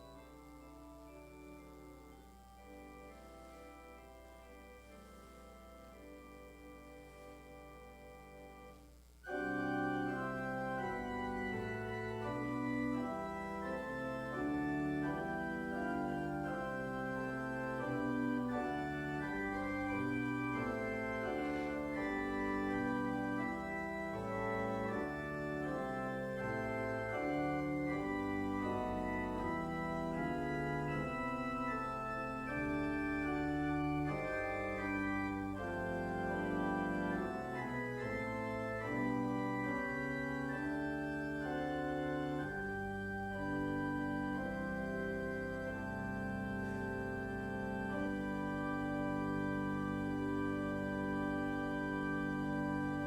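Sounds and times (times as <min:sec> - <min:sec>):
organ playing slow chords: 0:00.0 - 0:53.0.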